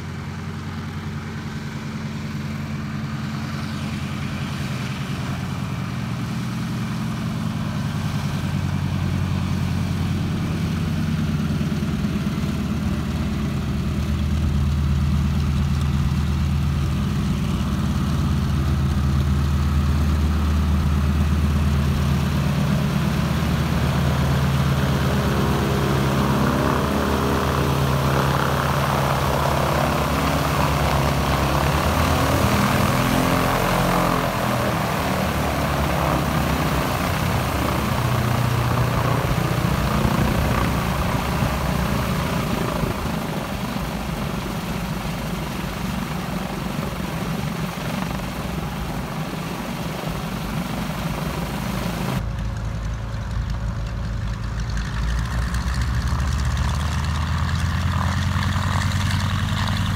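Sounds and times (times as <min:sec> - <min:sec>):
propeller aircraft engine running: 0:00.0 - 0:59.9.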